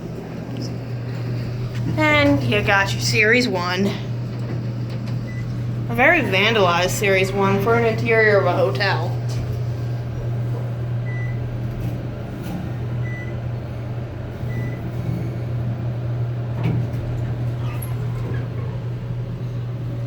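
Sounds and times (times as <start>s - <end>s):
elevator humming: 0.0s - 20.0s.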